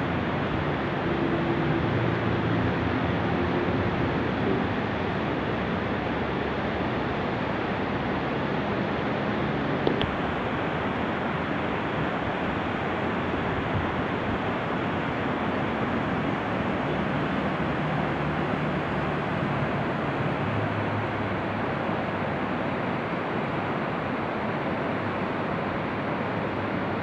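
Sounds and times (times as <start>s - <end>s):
river rapids rushing: 0.0s - 27.0s.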